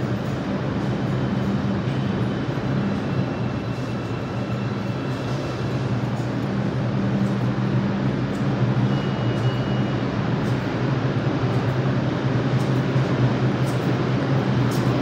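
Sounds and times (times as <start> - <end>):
subway train hum: 0.0 - 15.0.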